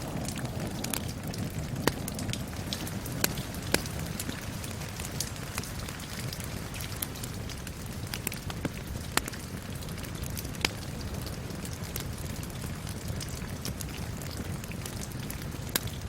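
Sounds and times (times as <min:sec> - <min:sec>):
rain hissing: 0:00.0 - 0:16.0
wood fire crackling and popping: 0:00.0 - 0:16.0.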